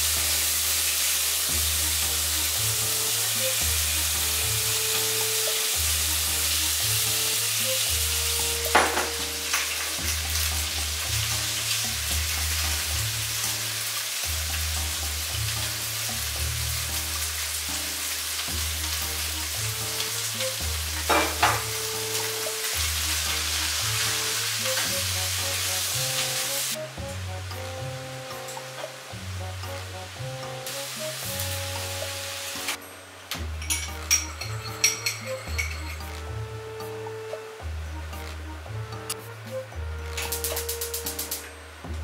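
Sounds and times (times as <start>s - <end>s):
meat and cabbage sizzling in pan: 0.0s - 37.3s, 39.2s - 42.0s.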